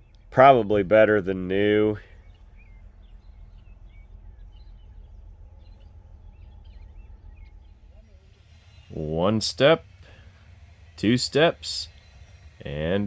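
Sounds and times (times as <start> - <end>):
faint bird chirps: 0.0 - 13.0
steady low rumble: 0.0 - 13.0.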